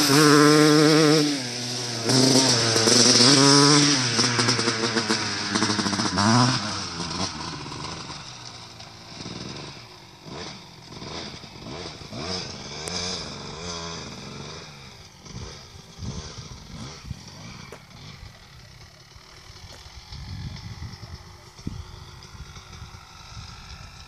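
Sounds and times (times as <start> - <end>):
distant dirt bike revving: 0.0 - 24.0.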